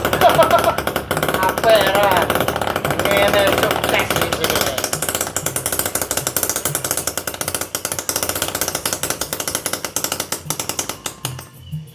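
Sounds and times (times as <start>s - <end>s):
small engine clattering: 0.0s - 11.9s.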